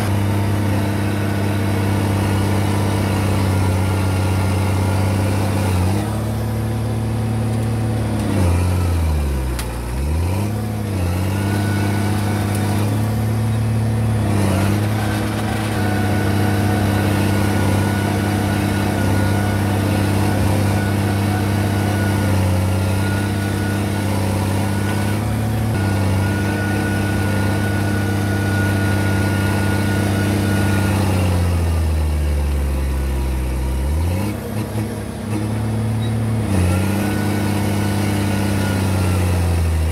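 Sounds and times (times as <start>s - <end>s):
bulldozer diesel engine running hard: 0.0s - 39.9s.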